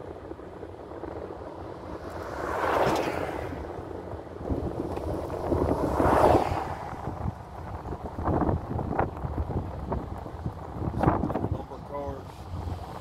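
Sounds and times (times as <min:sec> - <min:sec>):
passing vehicle whooshes: 0:00.0 - 0:11.5
car road and wind noise: 0:00.0 - 0:13.0.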